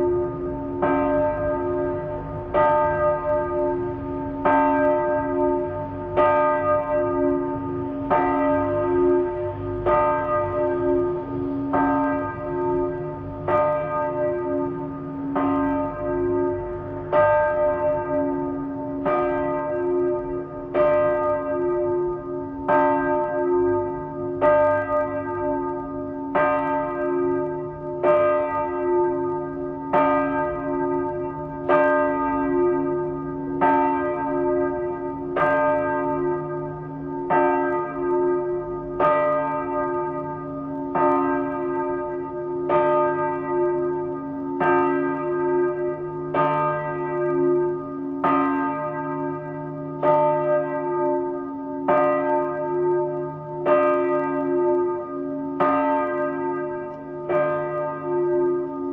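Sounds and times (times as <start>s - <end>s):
church bell ringing: 0.0s - 58.9s.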